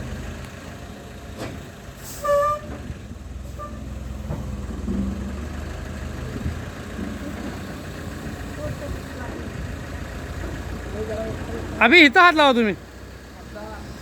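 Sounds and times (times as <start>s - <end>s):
heavy vehicle engine idling: 0.0s - 14.0s.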